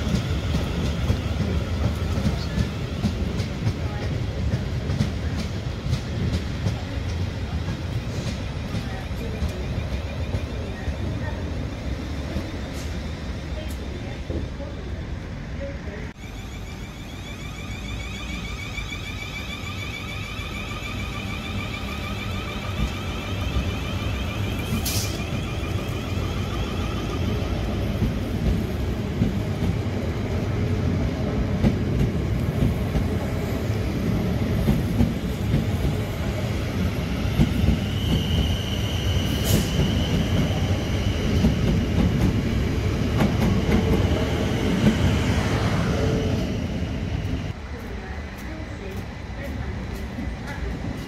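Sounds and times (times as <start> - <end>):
high train whine: 0.0 - 51.0
train wheels rumbling on rail: 0.0 - 51.0.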